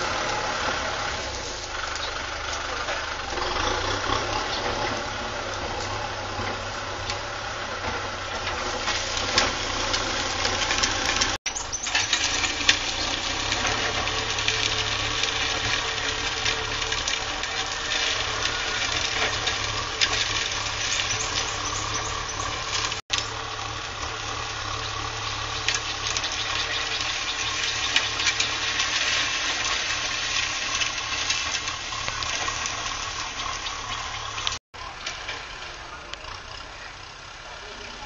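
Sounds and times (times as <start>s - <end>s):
harrow discs scraping soil: 0.0s - 38.0s
tractor engine drone: 0.0s - 38.0s.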